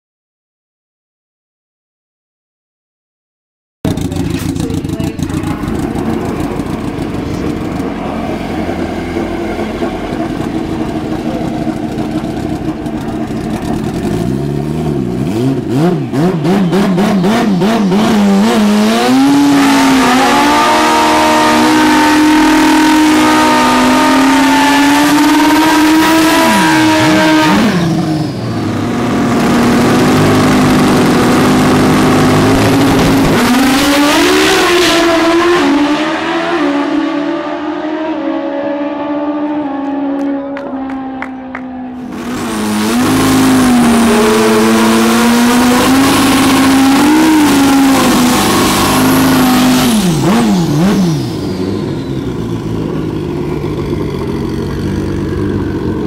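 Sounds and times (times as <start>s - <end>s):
motorcycle engine revving: 3.9s - 56.0s.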